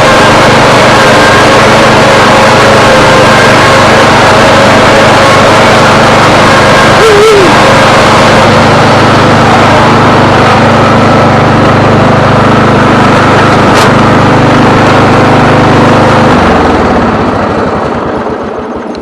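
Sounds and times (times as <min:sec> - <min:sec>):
lawn tractor engine running: 0:00.0 - 0:19.0.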